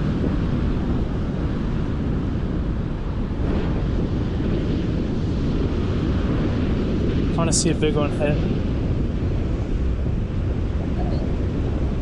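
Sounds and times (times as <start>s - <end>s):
heavy ocean surf: 0.0s - 12.0s
wind buffeting microphone: 0.0s - 12.0s.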